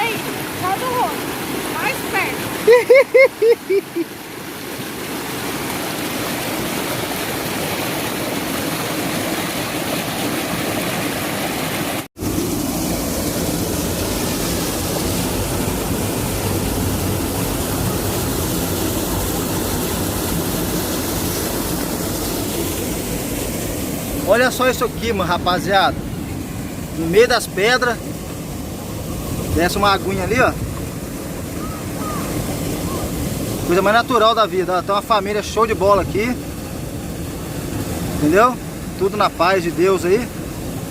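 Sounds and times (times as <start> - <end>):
water flowing over rocks: 0.0 - 40.9.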